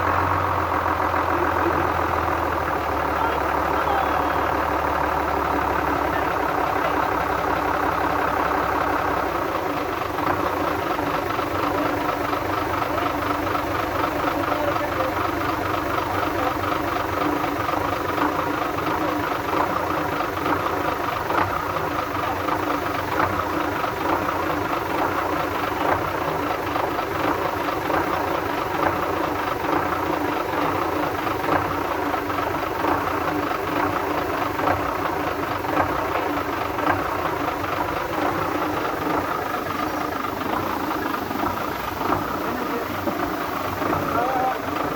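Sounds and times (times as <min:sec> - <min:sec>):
engine idling with ticking knock: 0:00.0 - 0:44.9.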